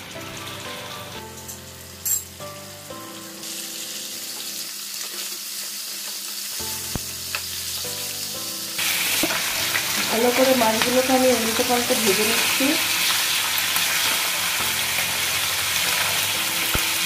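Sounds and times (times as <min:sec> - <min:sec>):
background music: 0:00.0 - 0:04.8, 0:06.5 - 0:17.0
fish sizzling in hot oil: 0:00.0 - 0:17.0.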